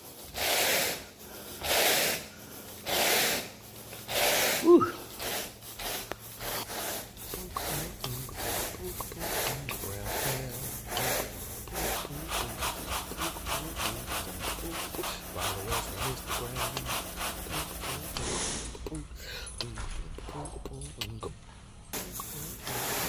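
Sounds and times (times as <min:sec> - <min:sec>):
rake rubbing through carpet: 0:00.0 - 0:18.7, 0:22.0 - 0:23.0.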